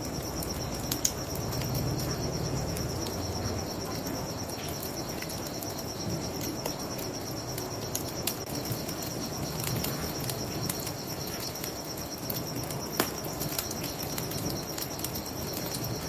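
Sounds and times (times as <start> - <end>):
crickets chirping: 0.0 - 16.0
wood fire crackling and popping: 0.0 - 16.0.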